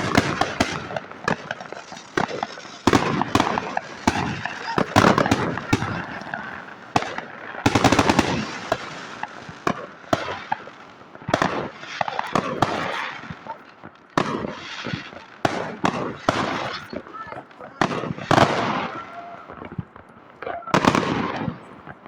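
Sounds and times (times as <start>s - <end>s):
distant fireworks crackling: 0.0s - 22.0s
fireworks bangs: 0.0s - 22.0s.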